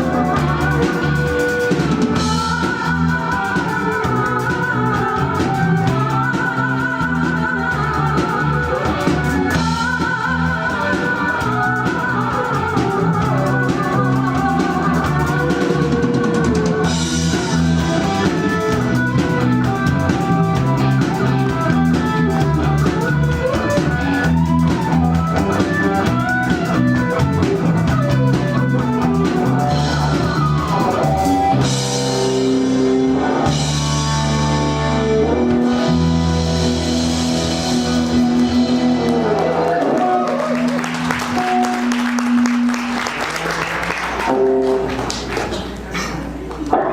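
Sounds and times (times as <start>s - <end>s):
sliding lead guitar line: 0.0s - 45.1s
drum kit: 0.0s - 46.6s
bass guitar: 0.0s - 46.9s.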